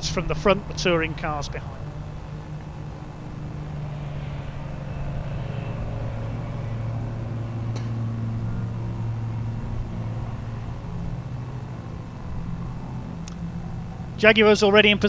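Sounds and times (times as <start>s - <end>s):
car engine at low revs: 0.0s - 15.0s.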